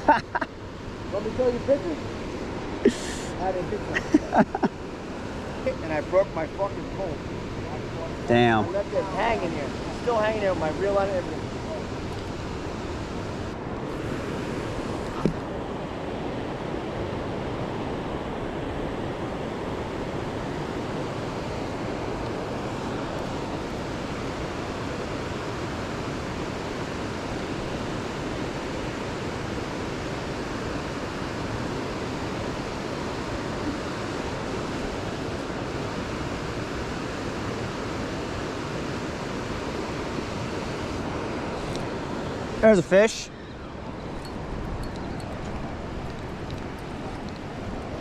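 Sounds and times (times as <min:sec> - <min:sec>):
rushing water: 0:00.0 - 0:48.0.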